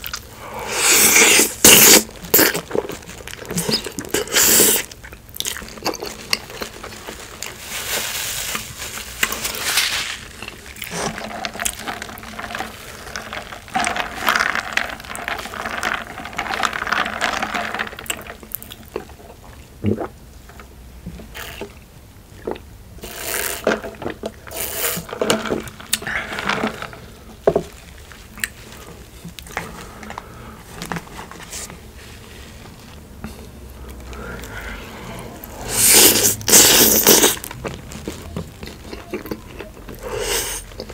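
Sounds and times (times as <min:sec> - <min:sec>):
wet chewing and mouth noises: 0:00.0 - 0:07.6, 0:10.4 - 0:20.7, 0:21.4 - 0:31.8, 0:32.8 - 0:40.9.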